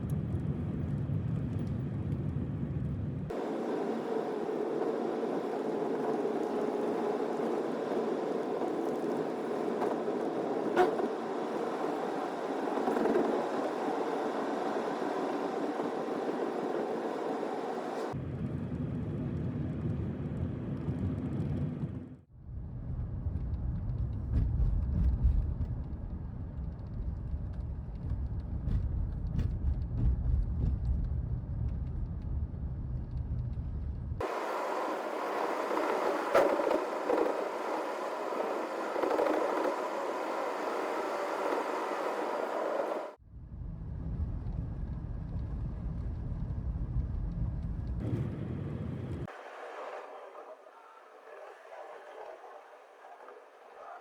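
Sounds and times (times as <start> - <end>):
vehicle road and engine rumble: 0.0 - 54.0.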